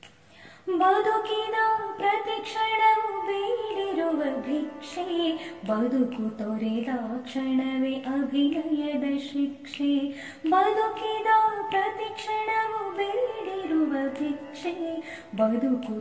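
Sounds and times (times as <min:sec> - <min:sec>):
woman singing slow song: 0:00.0 - 0:16.0.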